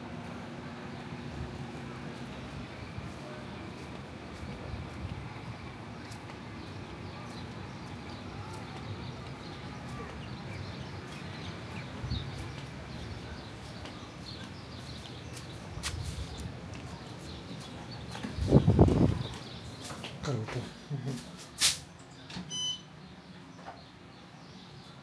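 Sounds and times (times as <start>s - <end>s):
murmur of distant voices: 0.0s - 25.0s
birds chirping: 0.9s - 21.4s.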